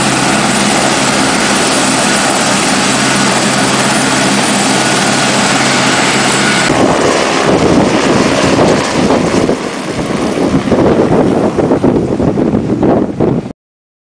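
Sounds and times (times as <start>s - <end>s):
helicopter lifting off: 0.0s - 13.5s.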